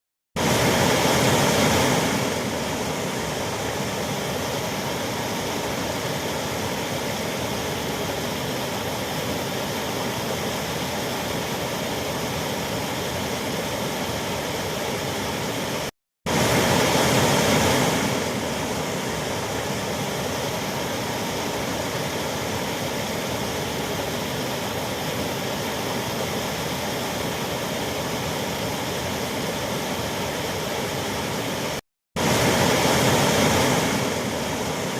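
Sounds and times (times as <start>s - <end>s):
waterfall roaring: 0.4s - 34.9s.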